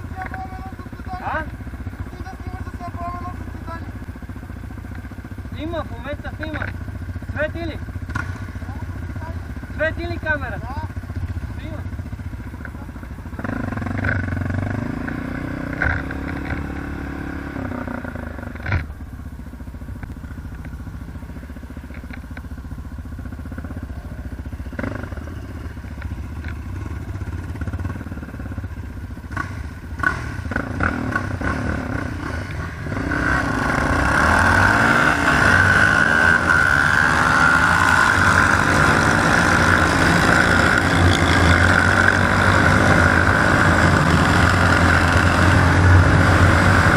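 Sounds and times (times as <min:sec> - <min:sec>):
quad bike engine revving: 0:00.0 - 0:19.0, 0:23.0 - 0:46.9.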